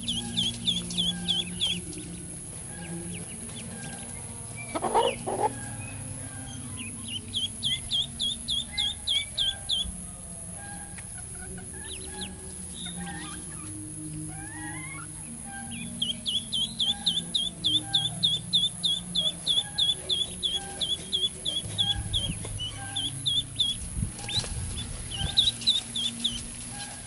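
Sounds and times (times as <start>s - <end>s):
duckling peeping: 0.0s - 27.0s.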